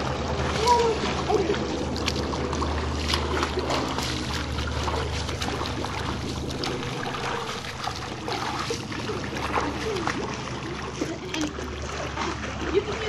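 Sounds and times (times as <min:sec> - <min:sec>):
pool water splashing: 0:00.0 - 0:13.0
steady low hum: 0:00.0 - 0:13.0.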